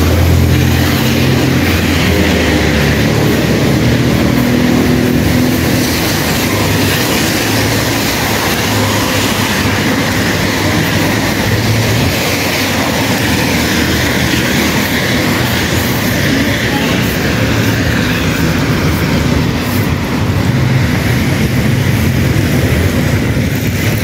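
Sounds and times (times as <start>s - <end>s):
wind and rain: 0.0s - 24.0s
wind buffeting microphone: 0.0s - 24.0s.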